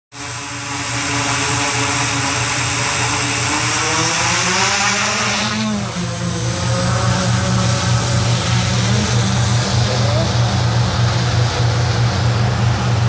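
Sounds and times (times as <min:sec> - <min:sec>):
drone motors whirring: 0:00.1 - 0:13.0.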